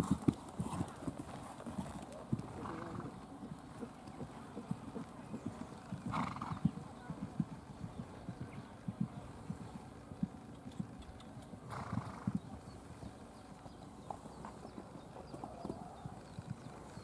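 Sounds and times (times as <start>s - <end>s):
horse hooves on sand: 0.0s - 17.0s.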